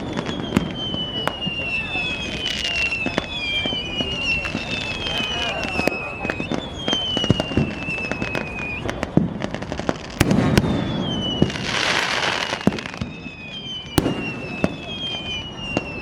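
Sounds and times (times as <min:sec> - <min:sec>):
falling whistling tones: 0:00.0 - 0:16.0
firecracker bangs: 0:00.0 - 0:16.0
hissing firework burst: 0:00.0 - 0:16.0.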